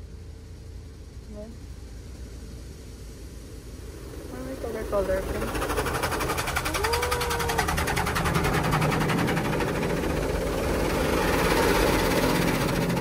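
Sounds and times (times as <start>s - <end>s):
low hum: 0.0s - 13.0s
car wash drumming rattle: 1.9s - 13.0s.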